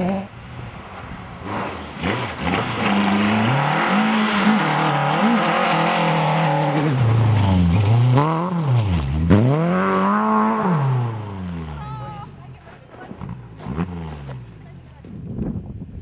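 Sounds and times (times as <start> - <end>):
rally car engine revving: 1.3 - 14.8.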